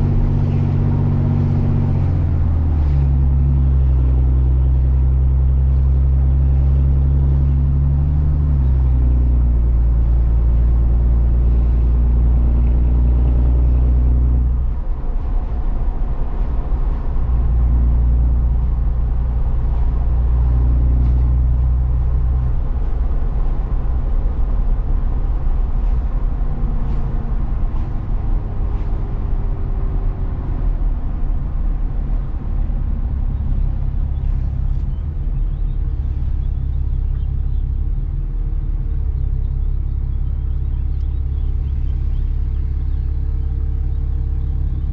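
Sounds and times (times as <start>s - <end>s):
road noise: 0.0s - 44.9s
truck engine running: 0.0s - 44.9s.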